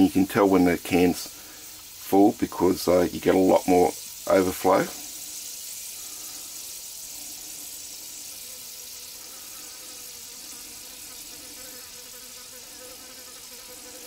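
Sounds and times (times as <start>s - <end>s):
gas hissing: 0.0s - 13.1s
faint buzzing tone: 0.0s - 14.0s.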